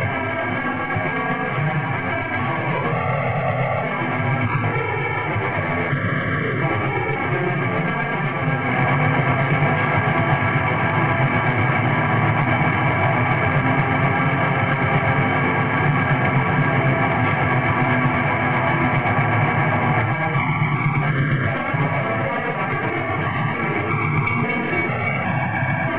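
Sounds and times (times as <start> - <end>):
distorted guitar and bass metal: 0.0 - 25.9.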